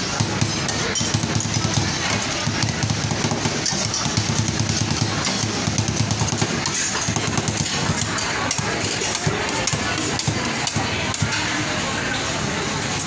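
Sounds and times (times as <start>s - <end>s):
metal spatulas chopping on steel: 0.0s - 11.6s.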